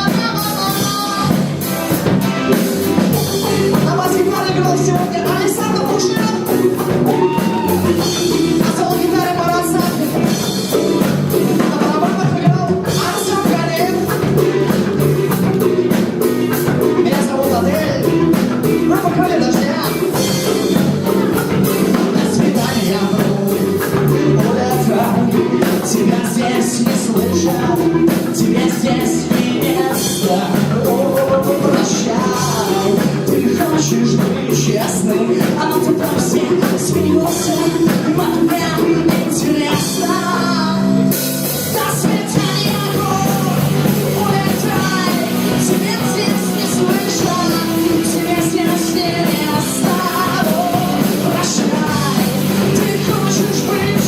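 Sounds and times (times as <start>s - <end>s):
person singing: 0.0s - 1.6s, 2.9s - 54.0s
drums keeping a beat: 0.0s - 54.0s
rock band playing live: 0.0s - 54.0s.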